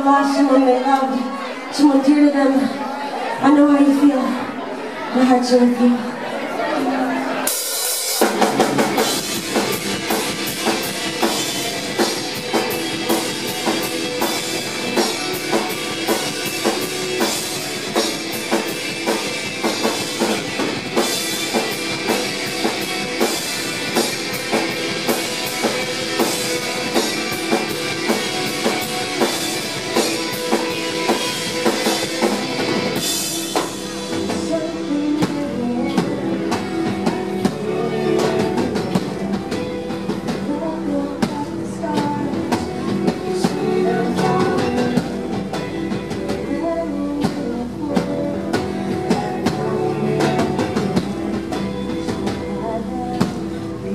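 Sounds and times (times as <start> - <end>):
electric guitars: 0.0 - 53.9
bass guitar: 6.7 - 53.9
drum kit steady beat: 7.4 - 53.9.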